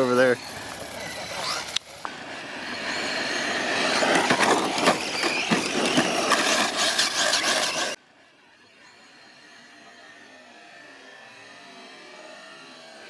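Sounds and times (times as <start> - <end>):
high motor whine: 0.0 - 13.0.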